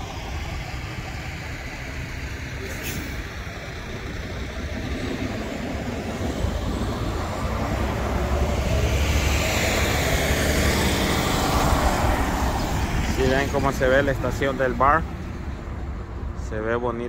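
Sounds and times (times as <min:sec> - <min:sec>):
road traffic: 0:00.0 - 0:17.0
truck passing by: 0:00.0 - 0:17.0.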